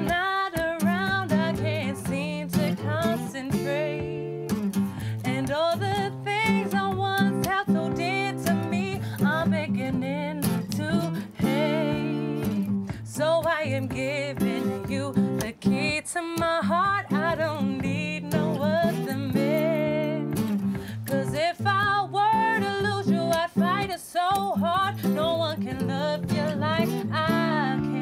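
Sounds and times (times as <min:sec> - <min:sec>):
person singing with vibrato: 0:00.0 - 0:04.5, 0:05.1 - 0:28.0
acoustic guitar strumming: 0:00.0 - 0:28.0.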